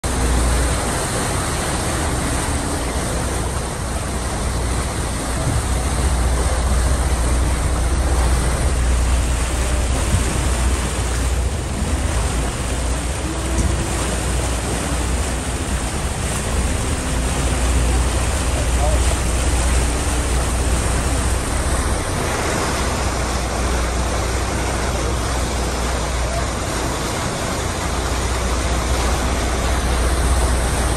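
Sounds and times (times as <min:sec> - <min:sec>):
wind buffeting microphone: 0:00.0 - 0:25.9
churning water: 0:00.0 - 0:30.9
constant low rumble: 0:00.0 - 0:30.9.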